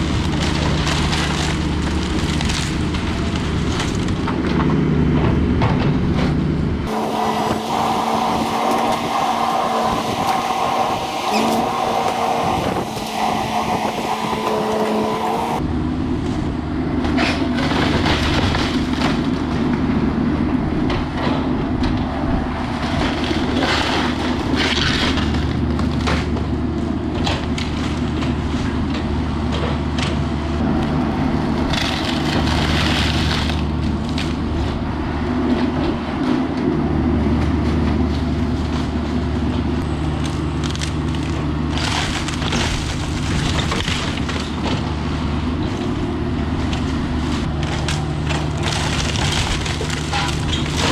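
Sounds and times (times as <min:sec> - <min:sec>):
wood splintering and crunching: 0:00.0 - 0:05.2, 0:06.9 - 0:15.6, 0:17.2 - 0:19.9, 0:22.7 - 0:34.9, 0:37.5 - 0:50.9
demolition machine engine running: 0:00.0 - 0:50.9.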